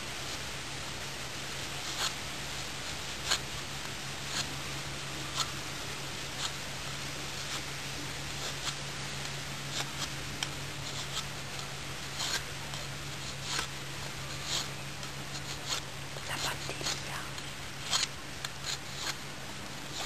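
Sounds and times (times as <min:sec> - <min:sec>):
steady background hiss: 0:00.0 - 0:20.0
knife shaving wooden stick: 0:00.1 - 0:20.0.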